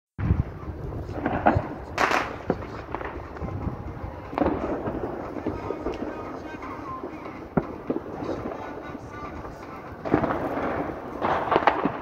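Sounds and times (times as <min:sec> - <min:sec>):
distant bangs echoing: 0:00.2 - 0:12.0.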